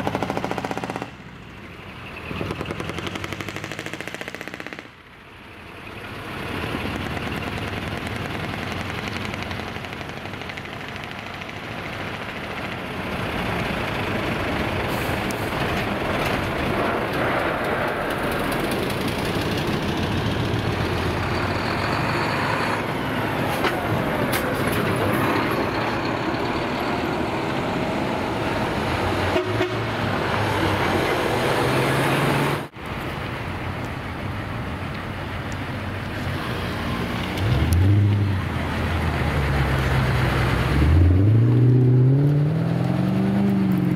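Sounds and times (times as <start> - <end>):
diesel truck engines passing: 0.0 - 43.9.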